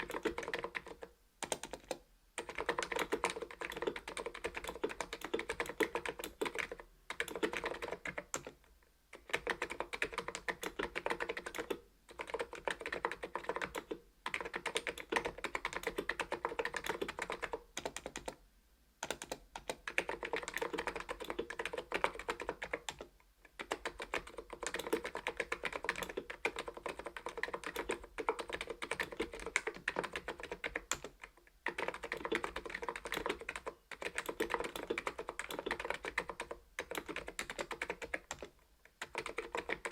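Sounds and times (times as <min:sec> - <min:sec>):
keyboard typing: 0:00.0 - 0:18.4, 0:19.0 - 0:39.9.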